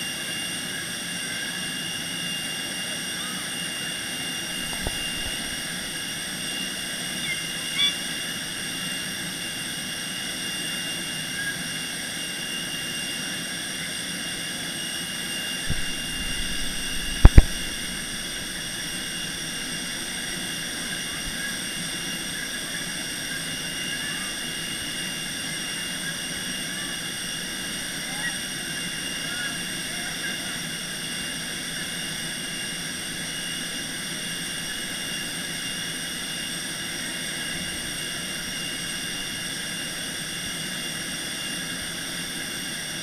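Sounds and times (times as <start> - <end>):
aircraft machinery whine and hum: 0.0 - 43.0.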